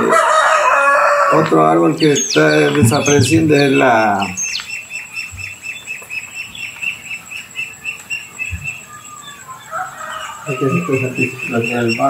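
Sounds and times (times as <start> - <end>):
rhythmic high-pitched chirping: 0.9 - 12.0.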